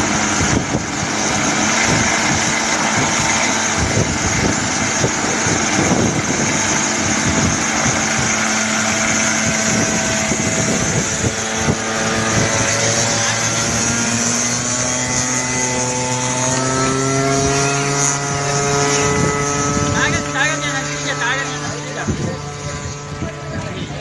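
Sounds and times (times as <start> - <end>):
propeller engine revving: 0.0 - 24.0.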